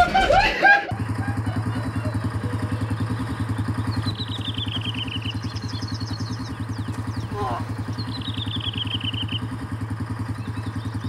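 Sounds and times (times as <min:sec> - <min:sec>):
utility vehicle engine idling: 0:00.0 - 0:11.0
bird trill: 0:01.2 - 0:11.0.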